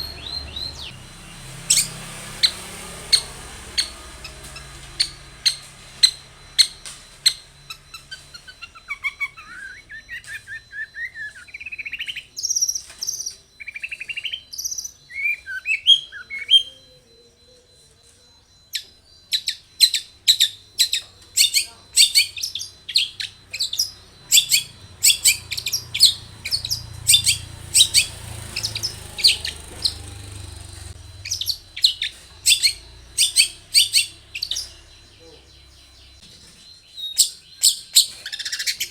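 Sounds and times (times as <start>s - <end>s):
bird singing: 0.0s - 38.9s
bird harsh chattering: 1.6s - 16.7s, 19.4s - 35.8s, 37.0s - 38.9s.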